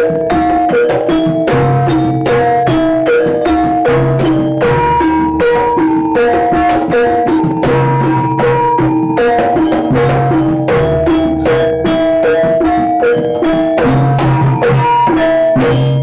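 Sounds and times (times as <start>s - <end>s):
drum strokes: 0.0s - 16.0s
metallophones playing melody: 0.0s - 16.0s.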